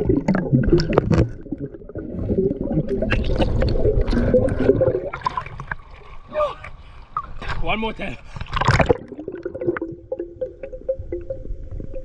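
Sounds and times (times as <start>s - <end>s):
water splashes: 0.0s - 12.0s.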